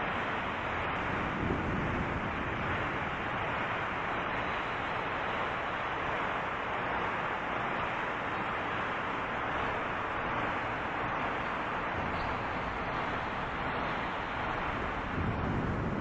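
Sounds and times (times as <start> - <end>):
processed wind and rain rushing: 0.0 - 16.0.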